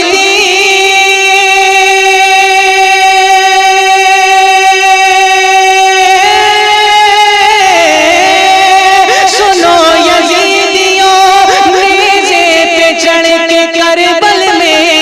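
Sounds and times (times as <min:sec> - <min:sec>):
person singing a long note: 0:00.0 - 0:15.0.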